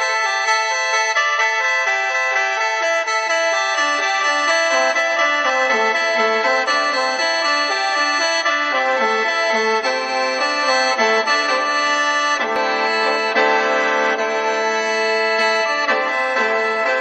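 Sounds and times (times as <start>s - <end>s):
bamboo mouth organ melody: 0.0s - 17.0s.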